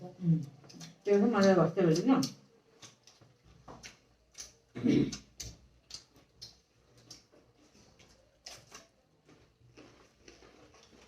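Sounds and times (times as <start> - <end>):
faint clicks and knocks of eating: 0.1 - 11.0.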